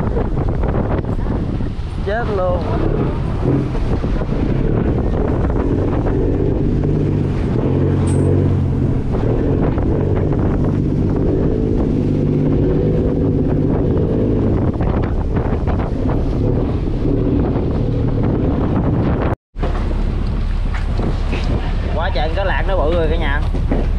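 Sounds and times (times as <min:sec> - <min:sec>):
waves washing against hull: 0:00.0 - 0:23.9
wind buffeting microphone: 0:00.0 - 0:23.9
diesel engine running: 0:01.1 - 0:23.9.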